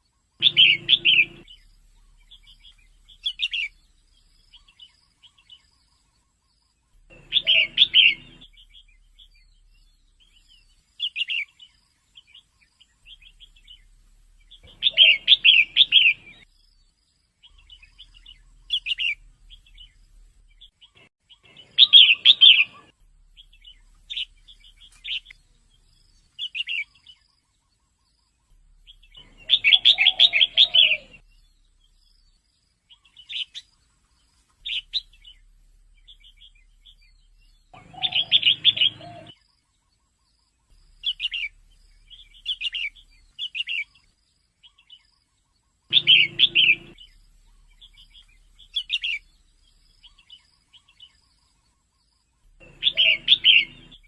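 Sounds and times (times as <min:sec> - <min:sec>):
bird chirpy calls: 0:00.0 - 0:54.0.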